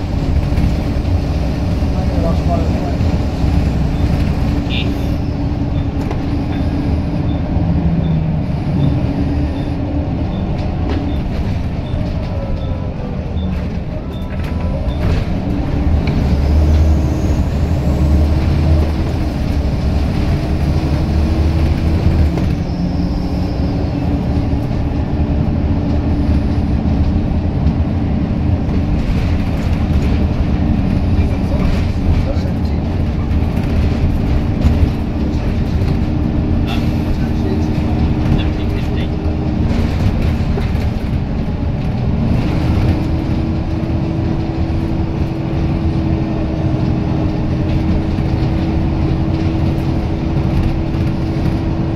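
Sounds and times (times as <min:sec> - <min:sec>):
bus diesel engine: 0:00.0 - 0:51.9.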